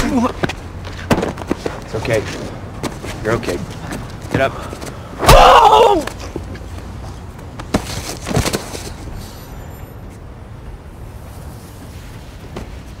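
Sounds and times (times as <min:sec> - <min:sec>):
night street ambience rumble: 0:00.0 - 0:13.0.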